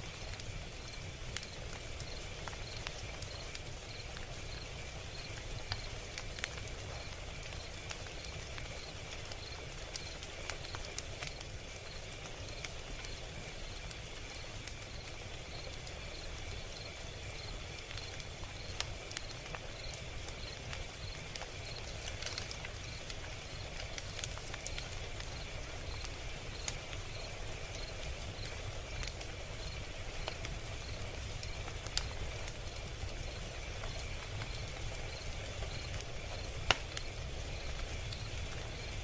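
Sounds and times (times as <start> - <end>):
log fire crackling: 0.0 - 39.0.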